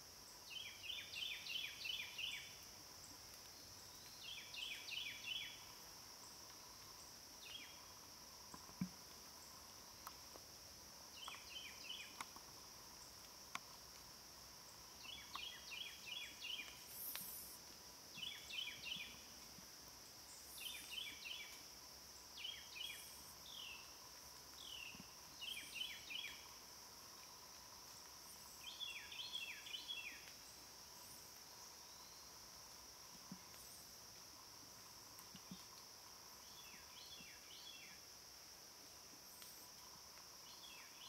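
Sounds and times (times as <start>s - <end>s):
insects droning: 0.0s - 41.0s
songbird chirping: 0.2s - 41.0s.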